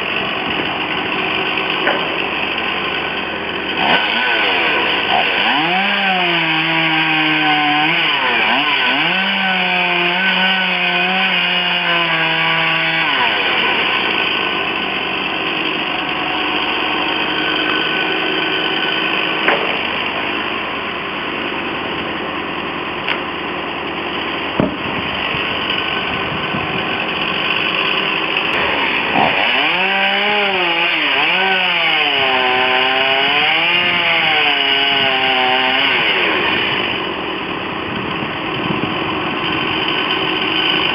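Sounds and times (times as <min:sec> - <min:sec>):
chainsaw cutting wood: 0:00.0 - 0:40.9
chainsaw revving: 0:00.0 - 0:40.9.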